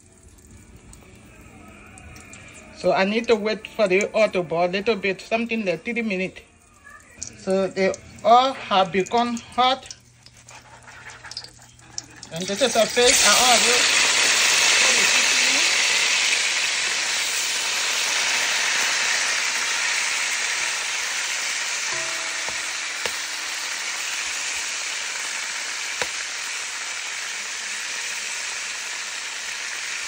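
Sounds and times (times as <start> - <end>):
fish frying in oil: 0.0 - 30.0.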